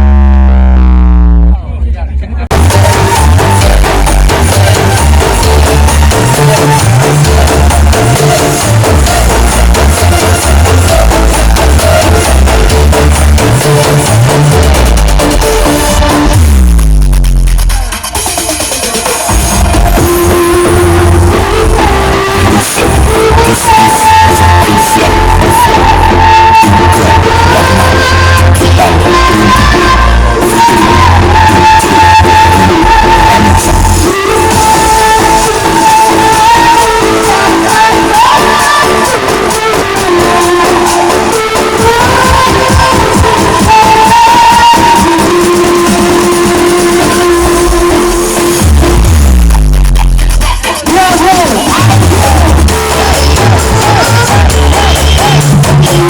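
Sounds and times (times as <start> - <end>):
electronic dance music with heavy bass: 0.0 - 56.0.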